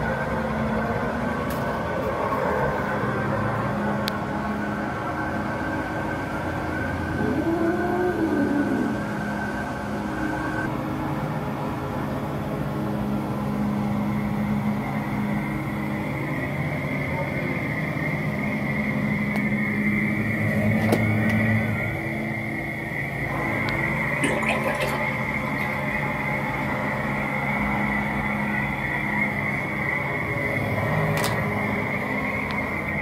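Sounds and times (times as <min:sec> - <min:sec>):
animatronic prop droning: 0:00.0 - 0:33.0.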